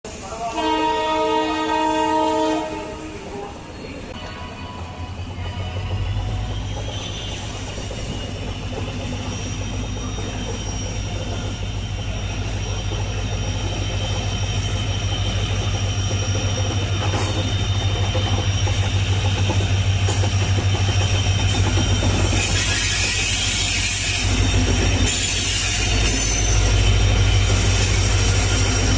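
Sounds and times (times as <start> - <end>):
diesel locomotive engine rumble: 0.1 - 28.9.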